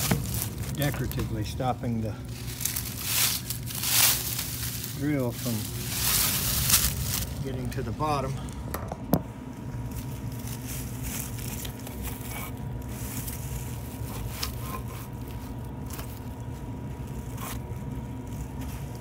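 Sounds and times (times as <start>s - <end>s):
air conditioning unit humming: 0.0s - 19.0s.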